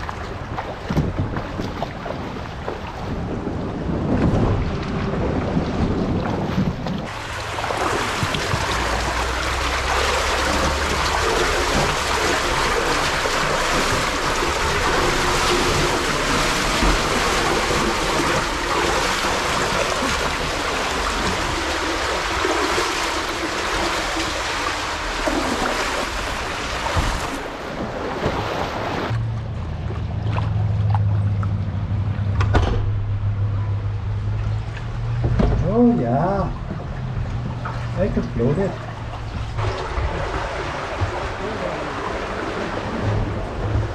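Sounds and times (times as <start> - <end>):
brook water rushing: 0.0 - 32.0, 33.3 - 43.9.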